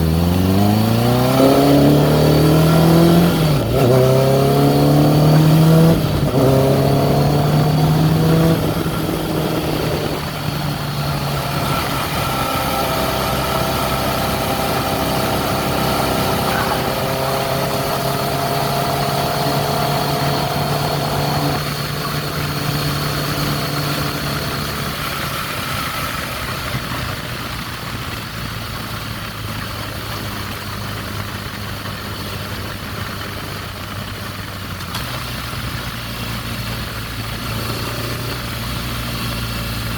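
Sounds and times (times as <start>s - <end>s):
motorcycle engine revving and idling: 0.0s - 39.9s
weird engine sound: 0.0s - 39.9s.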